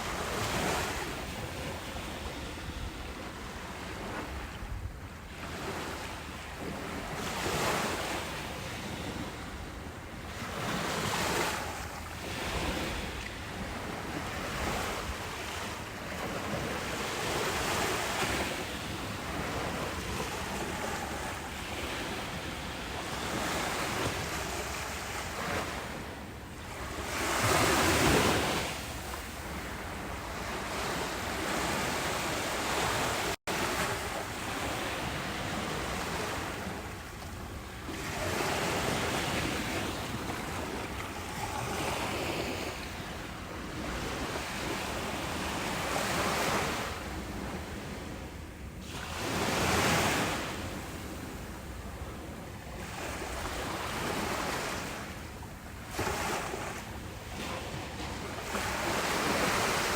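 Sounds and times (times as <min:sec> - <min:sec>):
ocean waves breaking on beach: 0:00.0 - 0:59.9
wind rumble on microphone: 0:00.0 - 0:59.9.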